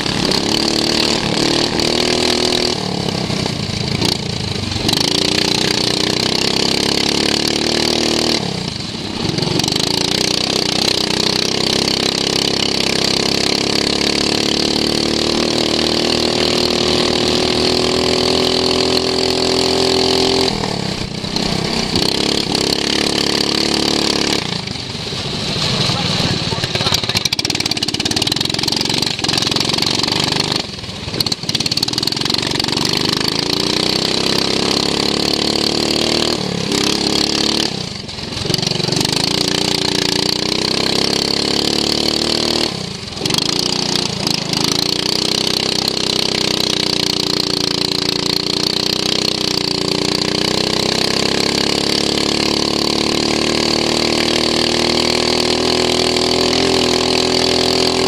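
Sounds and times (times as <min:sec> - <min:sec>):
lawn mower engine revving: 0:00.0 - 0:58.0.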